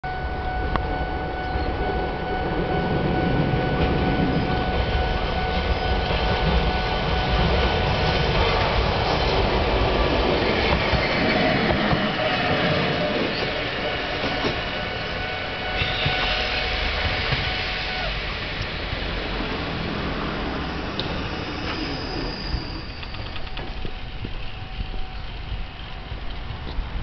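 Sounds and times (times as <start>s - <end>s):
train passing on rails: 0.0s - 27.0s.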